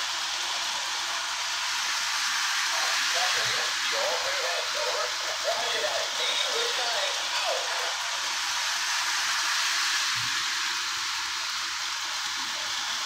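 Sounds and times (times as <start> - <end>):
toy train steady hiss: 0.0 - 13.0.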